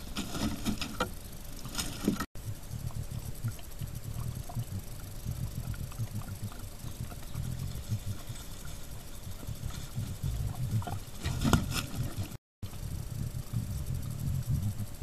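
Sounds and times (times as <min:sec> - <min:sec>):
animals moving and chewing: 0:00.0 - 0:15.0.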